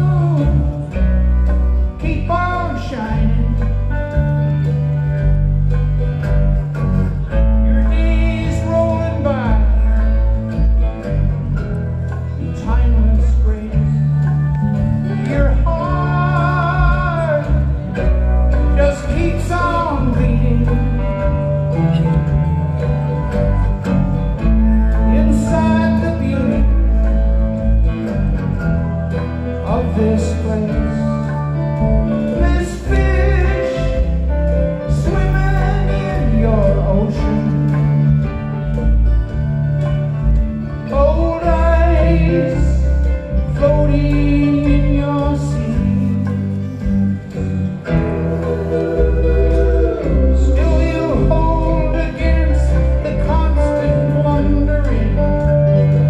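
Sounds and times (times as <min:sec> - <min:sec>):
live band with person singing: 0:00.0 - 0:56.0.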